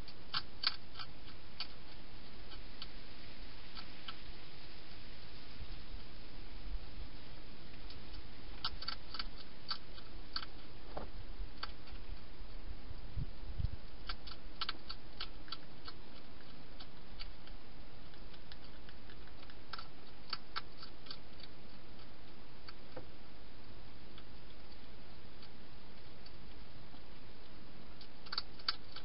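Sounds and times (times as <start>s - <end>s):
hedgehog crunching food: 0.0s - 5.3s, 7.1s - 29.0s
steady low hiss: 0.0s - 29.0s.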